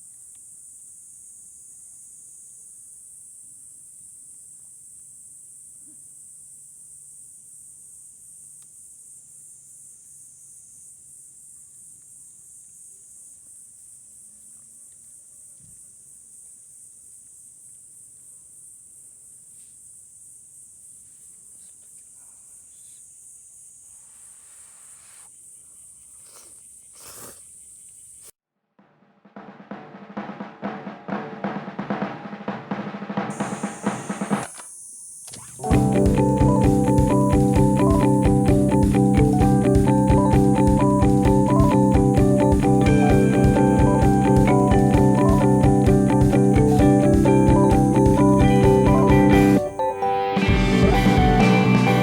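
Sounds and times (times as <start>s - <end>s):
insects singing shrilly: 0.0s - 28.4s, 33.3s - 52.0s.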